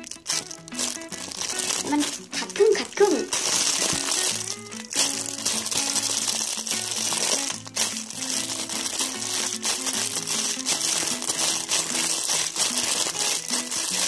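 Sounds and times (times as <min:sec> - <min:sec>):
light crinkling: 0:00.0 - 0:14.0
simple melody background music: 0:00.0 - 0:14.0.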